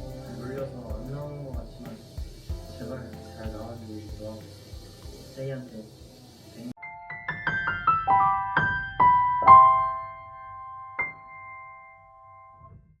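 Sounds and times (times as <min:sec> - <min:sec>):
soft piano music: 0:00.0 - 0:12.9.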